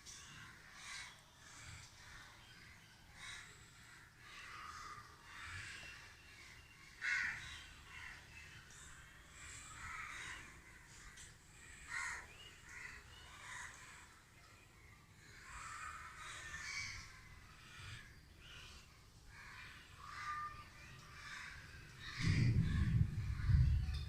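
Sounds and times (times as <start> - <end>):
crows cawing: 0.1 - 2.3, 3.1 - 14.3, 15.2 - 23.5.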